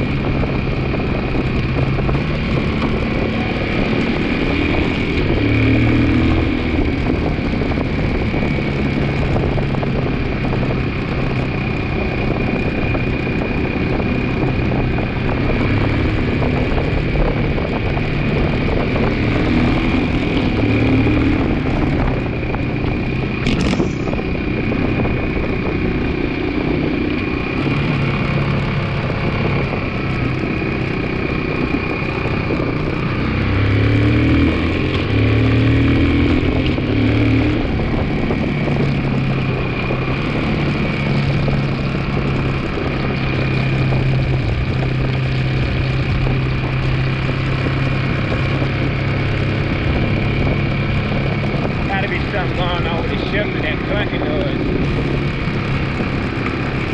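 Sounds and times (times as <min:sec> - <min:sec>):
high whine: 0:00.0 - 0:56.9
motorcycle engine revving: 0:00.0 - 0:56.9.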